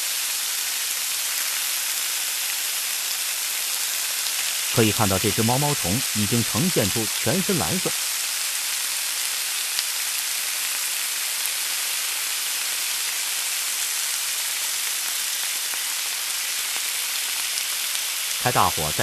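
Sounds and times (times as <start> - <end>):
oil frying sizzle: 0.0 - 19.0.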